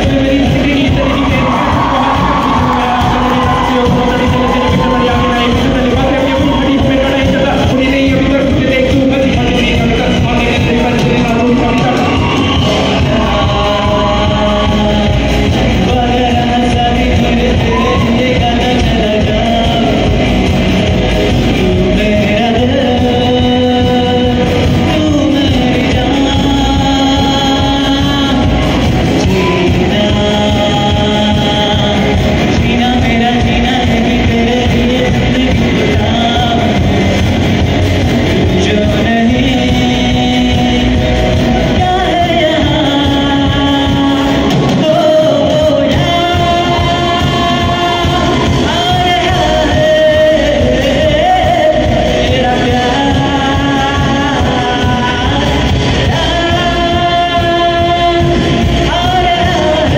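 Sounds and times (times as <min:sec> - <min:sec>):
amplified electric guitars: 0:00.0 - 0:59.9
drum kit: 0:00.0 - 0:59.9
man singing: 0:00.0 - 0:59.9.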